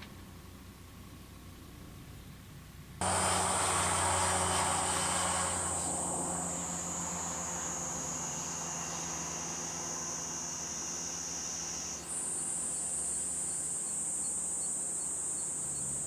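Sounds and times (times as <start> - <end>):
low hum: 0.0 - 14.6
insects chirring: 3.0 - 16.0.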